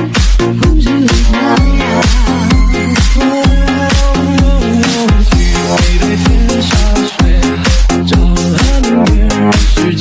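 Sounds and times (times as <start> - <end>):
house dance music: 0.0 - 10.0.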